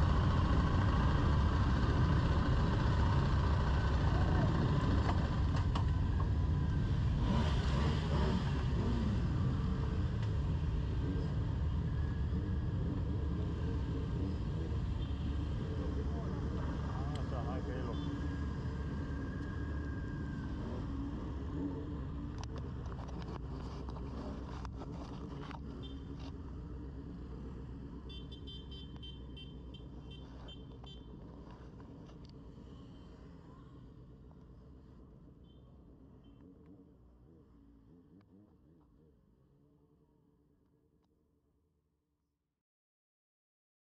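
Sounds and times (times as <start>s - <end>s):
motorcycle engines idling: 0.0s - 40.1s.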